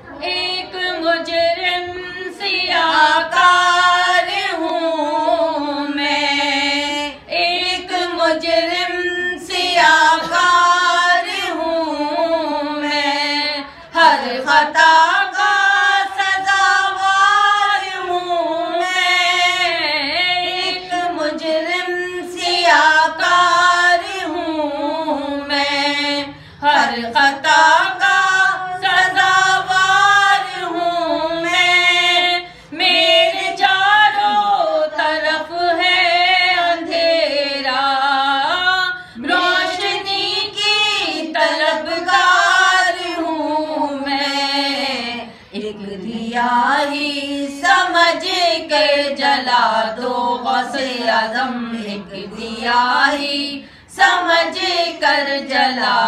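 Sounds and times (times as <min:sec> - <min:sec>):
women singing unaccompanied: 0:00.0 - 0:56.0.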